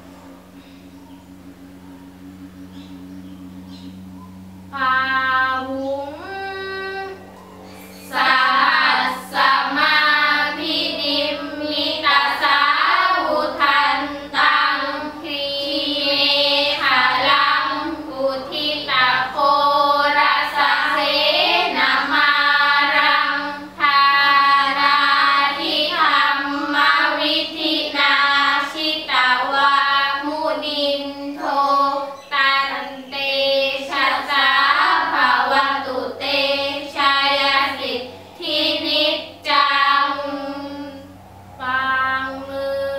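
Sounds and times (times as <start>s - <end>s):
girls chanting in unison: 4.7s - 42.9s.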